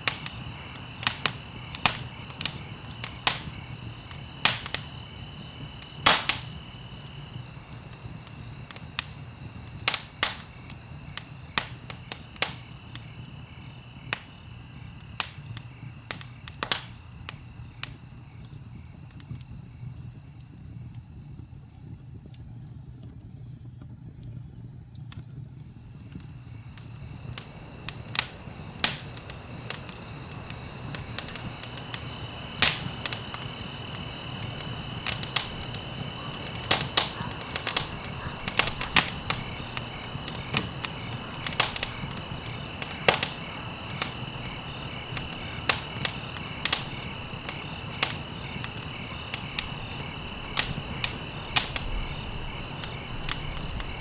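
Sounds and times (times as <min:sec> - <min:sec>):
insects chirring: 0:00.0 - 0:54.0
low rumble of flames: 0:00.0 - 0:54.0
wood fire crackling and popping: 0:00.0 - 0:54.0.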